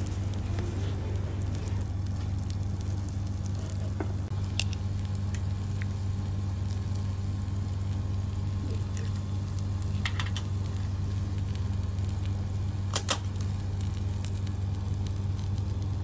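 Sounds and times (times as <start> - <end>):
food sizzling on grill: 0.0 - 16.0
low hum: 0.0 - 16.0
pops and crackles: 0.0 - 16.0.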